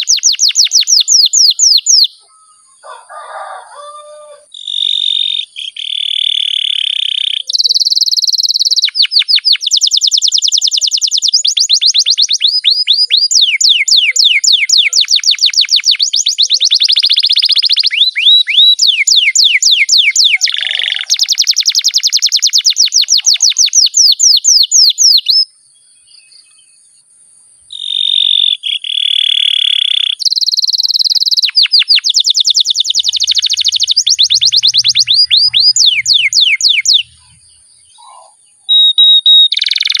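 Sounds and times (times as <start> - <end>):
canary singing: 0.0 - 26.8, 27.7 - 40.0.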